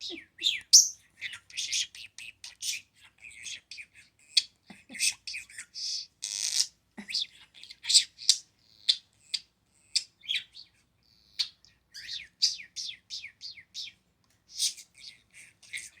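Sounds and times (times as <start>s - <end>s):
budgerigar chattering chirps: 0.1s - 4.5s, 5.1s - 6.8s, 7.6s - 16.0s.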